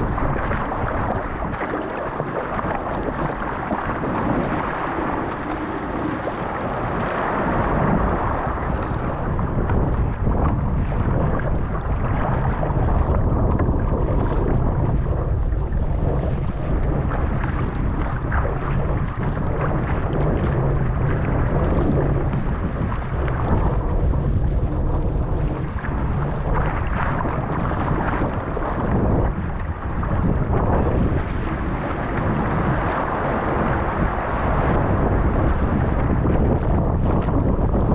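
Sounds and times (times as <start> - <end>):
choppy waves splashing: 0.0 - 37.9
wind buffeting microphone: 0.0 - 37.9.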